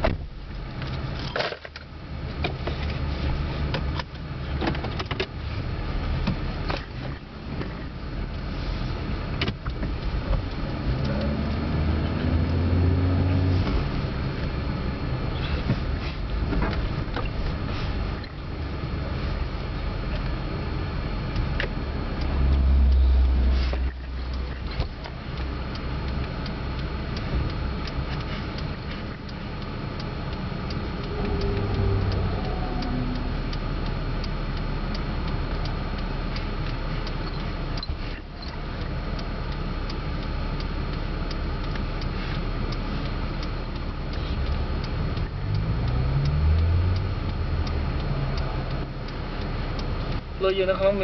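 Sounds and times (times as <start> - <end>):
regular ticking: 0.2 - 51.0.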